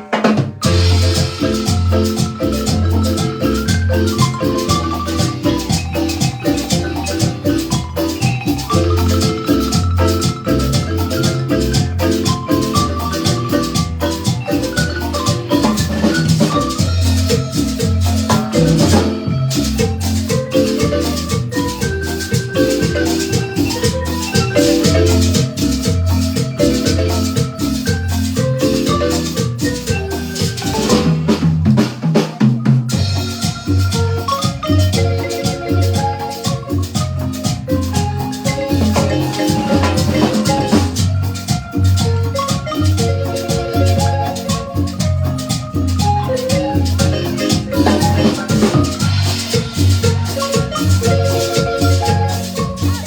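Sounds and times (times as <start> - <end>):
marimba ensemble playing: 0.0 - 53.0
percussion: 0.0 - 53.0.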